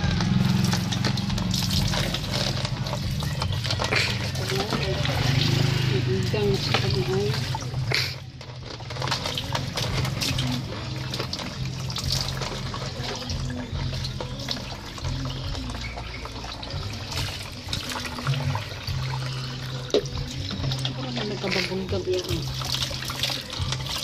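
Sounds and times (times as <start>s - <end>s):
small water splashes: 0.0s - 24.0s
water pouring into plastic basin: 0.0s - 24.0s.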